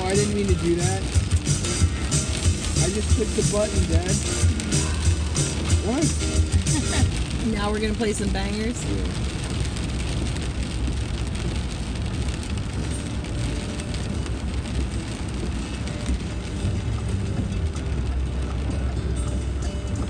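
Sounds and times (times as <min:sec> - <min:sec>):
vehicle road and engine rumble: 0:00.0 - 0:20.0.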